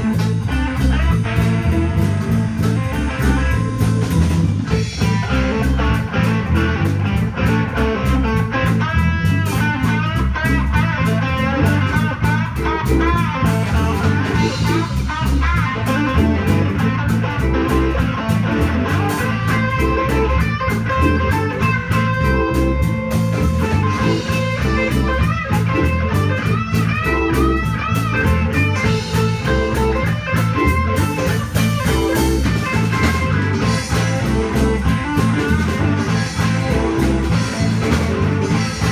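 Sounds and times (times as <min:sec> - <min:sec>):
bass and drum beat: 0:00.0 - 0:38.9
electric guitar solo: 0:00.0 - 0:38.9.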